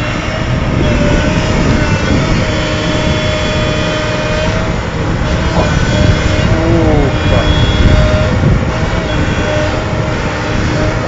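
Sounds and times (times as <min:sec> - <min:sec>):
heavy machine engine running: 0:00.0 - 0:11.0
steady whine: 0:00.0 - 0:11.0.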